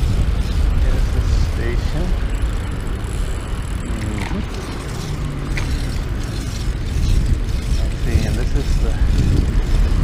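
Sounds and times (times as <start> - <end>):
wind and tyres rumbling: 0.0 - 10.0.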